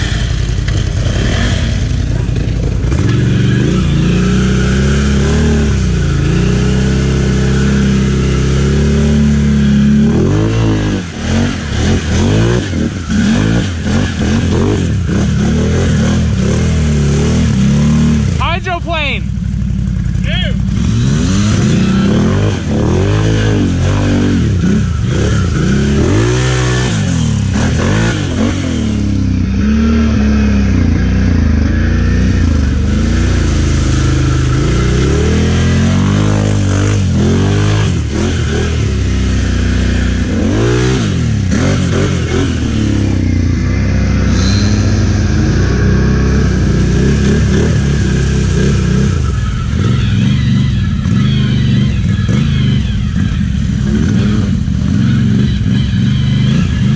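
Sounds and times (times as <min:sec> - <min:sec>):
atv engines revving: 0:00.0 - 0:56.9.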